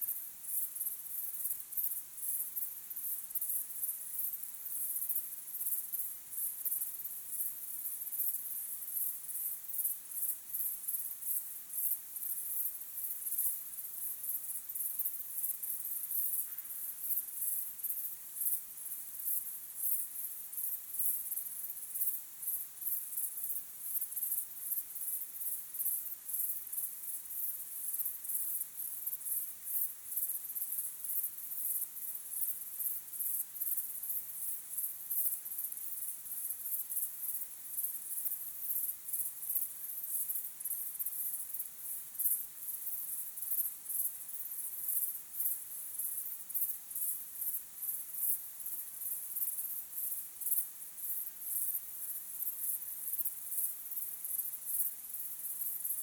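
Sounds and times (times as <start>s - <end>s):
crickets chirping: 0.2s - 56.0s.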